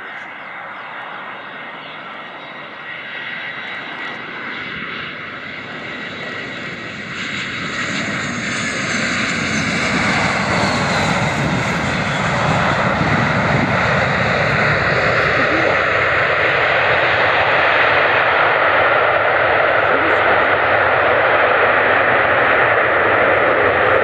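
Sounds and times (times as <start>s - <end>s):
jet engines whine and rush: 0.0s - 24.0s.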